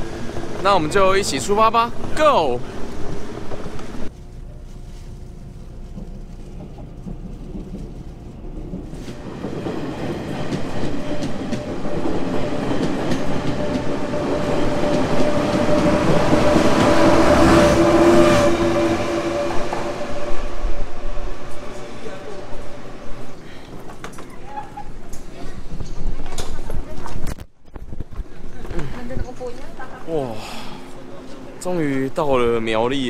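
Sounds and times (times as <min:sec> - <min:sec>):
steady train whine: 0:00.0 - 0:24.2, 0:29.9 - 0:33.0
train cars rumbling and clattering: 0:00.0 - 0:33.0.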